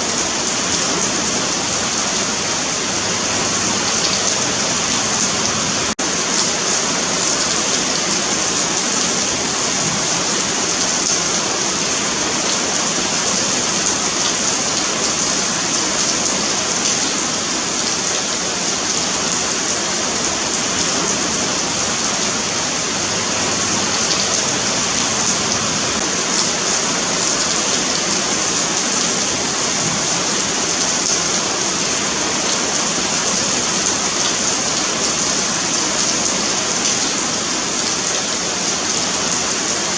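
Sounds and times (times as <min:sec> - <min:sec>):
rain on pavement: 0:00.0 - 0:39.9.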